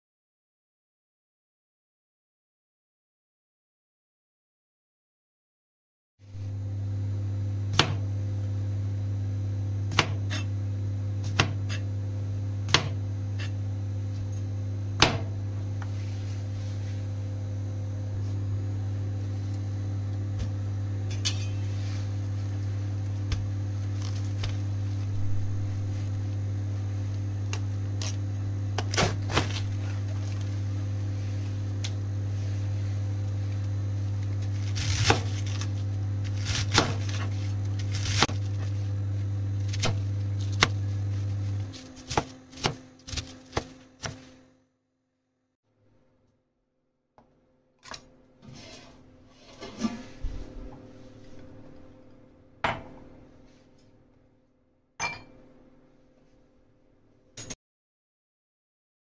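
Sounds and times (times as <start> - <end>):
low electrical hum: 6.3 - 44.7, 47.2 - 57.6.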